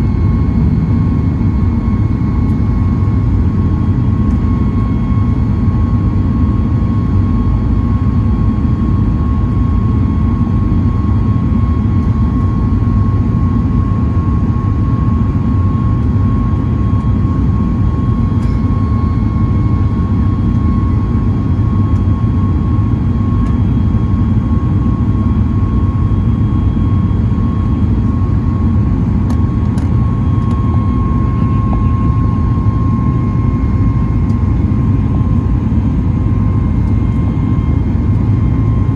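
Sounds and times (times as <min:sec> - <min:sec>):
constant whine: 0:00.0 - 0:38.9
jet cabin rumble: 0:00.0 - 0:38.9.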